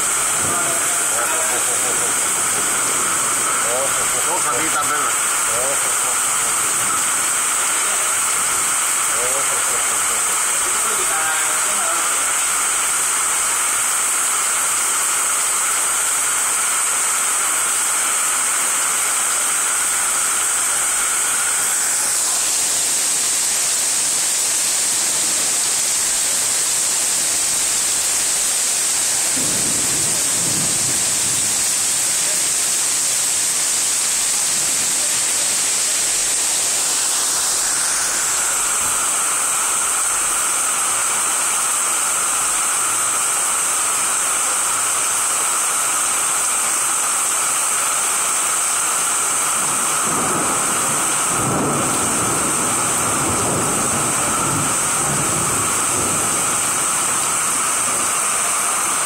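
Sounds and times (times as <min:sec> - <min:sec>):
heavy rain on street: 0:00.0 - 0:59.0.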